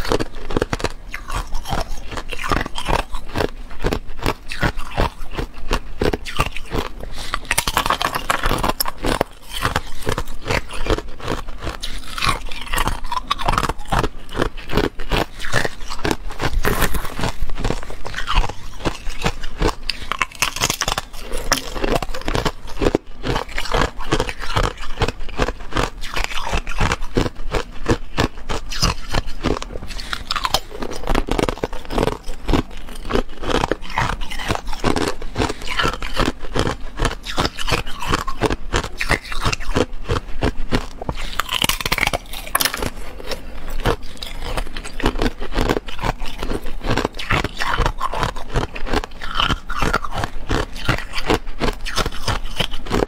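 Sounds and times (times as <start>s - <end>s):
ice crunching being chewed: 0.0s - 53.0s.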